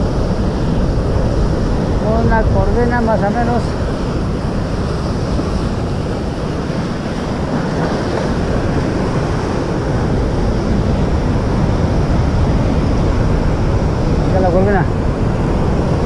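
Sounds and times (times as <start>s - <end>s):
surf breaking over rocks: 0.0s - 16.0s
wind buffeting microphone: 0.0s - 16.0s.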